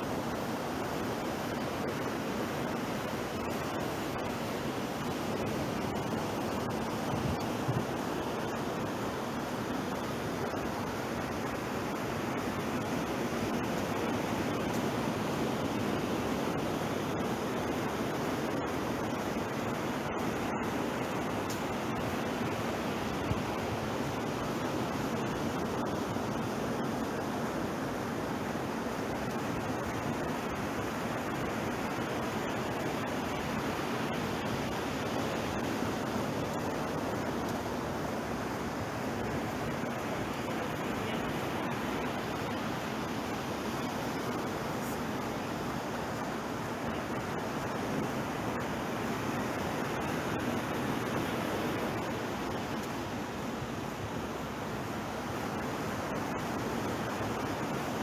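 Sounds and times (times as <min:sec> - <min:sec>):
ocean surf washing on beach: 0:00.0 - 0:58.0.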